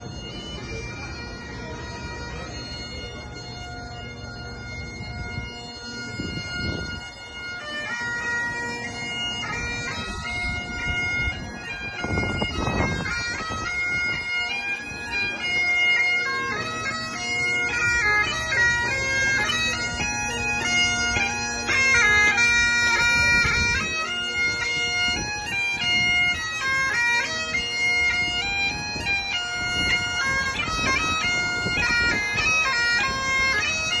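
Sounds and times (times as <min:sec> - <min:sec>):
bagpipes playing: 0:00.0 - 0:34.0.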